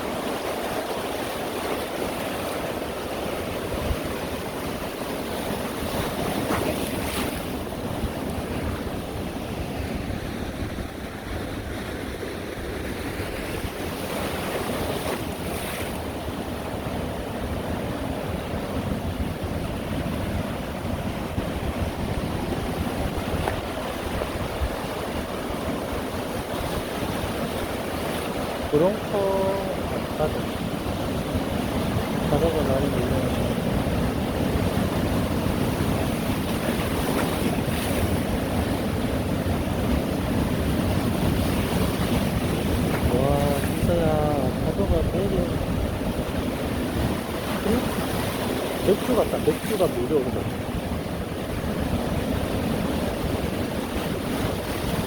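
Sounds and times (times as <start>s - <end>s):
sea waves breaking on shore: 0.0s - 55.0s
wind buffeting the microphone: 0.0s - 55.0s.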